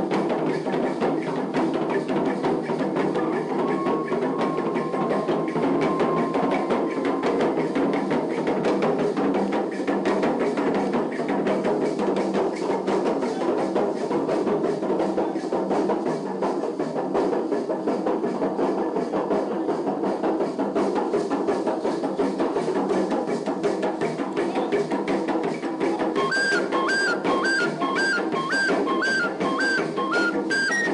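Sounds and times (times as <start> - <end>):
drum ensemble playing: 0.0 - 30.9.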